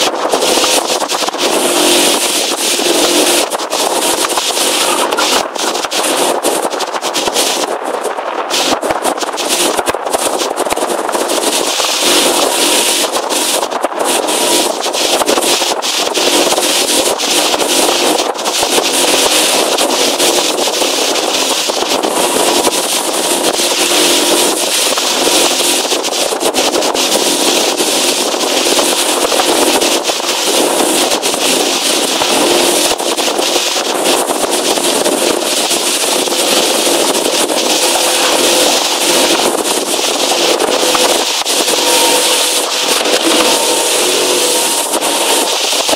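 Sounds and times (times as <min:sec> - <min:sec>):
motorboat engine running: 0:00.0 - 0:45.9
wind and water rushing: 0:00.0 - 0:45.9.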